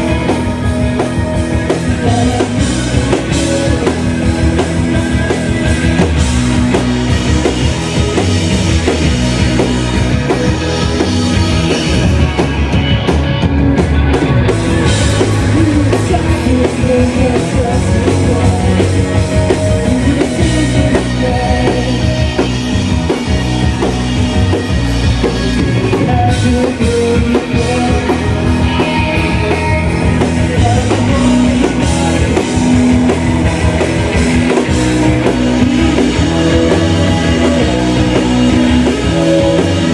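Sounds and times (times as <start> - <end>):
distorted guitars: 0.0 - 39.9
drum kit: 0.0 - 39.9
vocals: 0.0 - 39.9.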